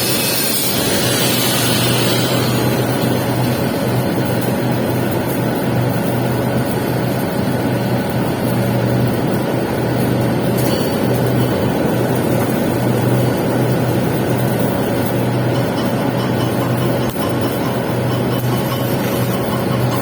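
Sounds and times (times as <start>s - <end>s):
welding arc sizzling: 0.0s - 20.0s.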